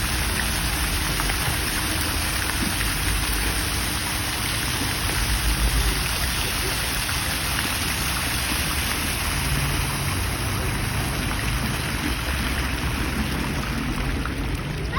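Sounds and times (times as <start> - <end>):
fountain water splashing: 0.0 - 14.9.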